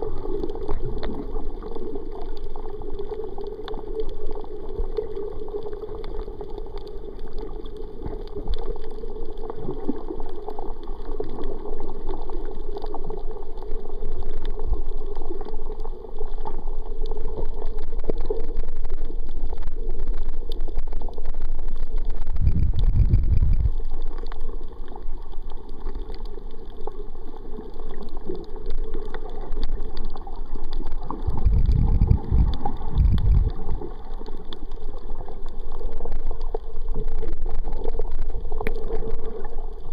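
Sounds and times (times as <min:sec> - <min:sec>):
muffled underwater water swirl: 0:00.0 - 0:39.9.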